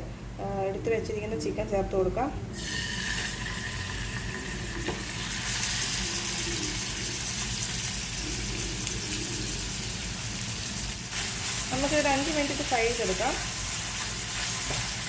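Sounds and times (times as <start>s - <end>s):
chicken sizzling in hot oil: 2.6s - 15.0s.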